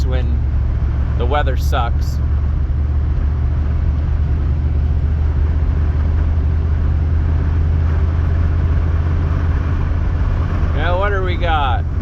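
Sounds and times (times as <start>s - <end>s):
pickup truck engine drone: 0.0s - 12.0s
road noise inside cab: 0.0s - 12.0s.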